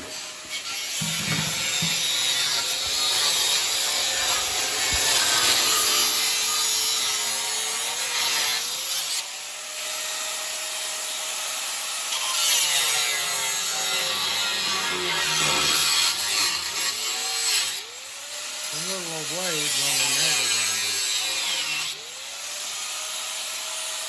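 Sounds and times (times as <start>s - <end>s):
angle grinder grinding metal: 0.0s - 24.0s.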